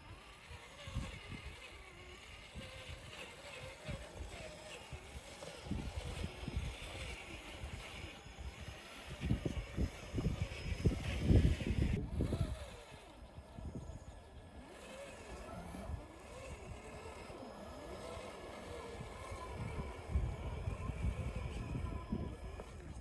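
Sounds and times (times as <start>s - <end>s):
electric motor whining: 0.0s - 23.0s
wind buffeting microphone: 0.0s - 23.0s.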